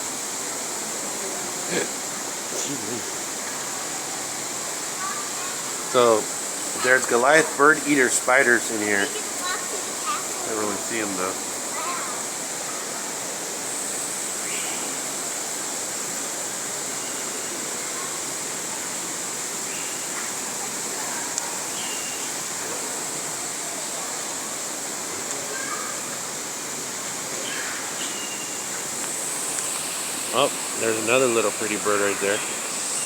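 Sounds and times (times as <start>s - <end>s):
rush of falling water: 0.0s - 33.0s.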